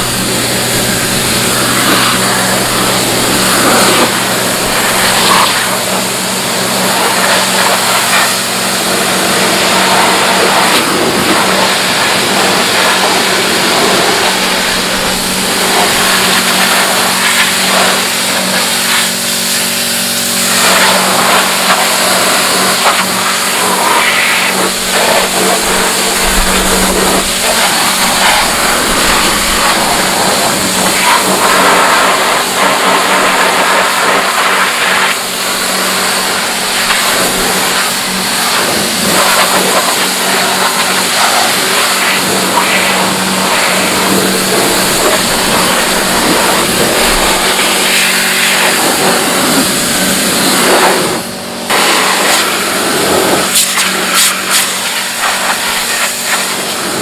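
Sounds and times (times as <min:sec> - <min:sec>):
pressure washer running: 0:00.0 - 0:57.0.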